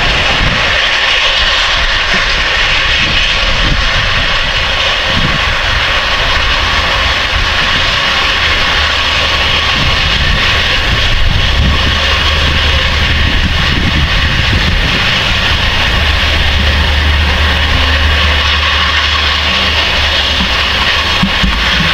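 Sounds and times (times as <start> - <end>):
diesel engine drone: 0.0 - 21.9.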